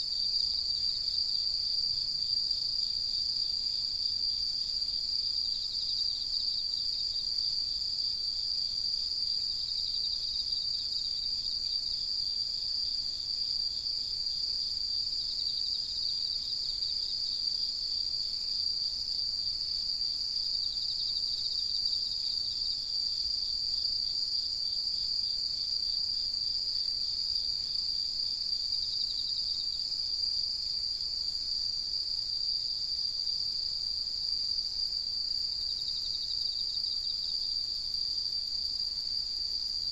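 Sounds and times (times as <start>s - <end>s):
lower pulsed insect trill: 0.0s - 39.9s.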